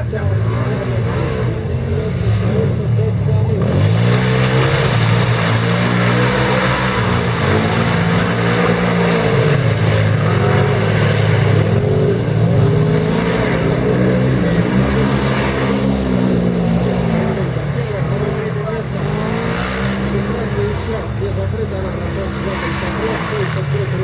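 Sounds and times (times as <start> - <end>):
quad bike engines revving: 0.0 - 24.0.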